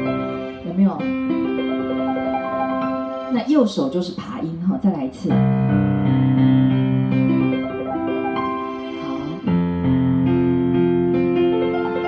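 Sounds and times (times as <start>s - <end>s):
slow worship piano: 0.0s - 3.4s, 5.3s - 12.0s.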